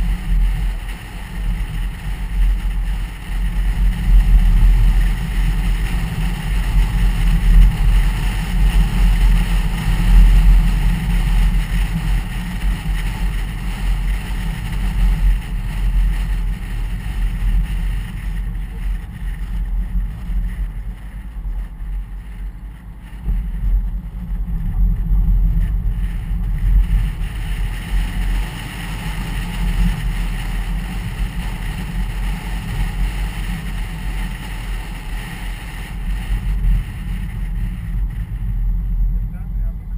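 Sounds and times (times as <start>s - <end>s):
car tyres and engine rumble: 0.0s - 39.9s
wind noise: 0.0s - 39.9s.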